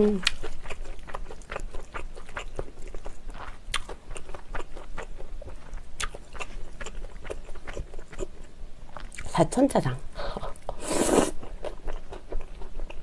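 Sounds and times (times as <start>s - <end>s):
chewing noodles with mouth smacks: 0.2s - 9.3s, 10.4s - 13.0s.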